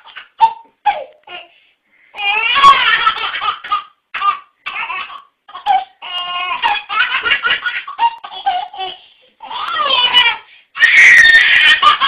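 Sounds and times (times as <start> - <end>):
baby laughing: 0.0 - 1.4, 2.2 - 12.0.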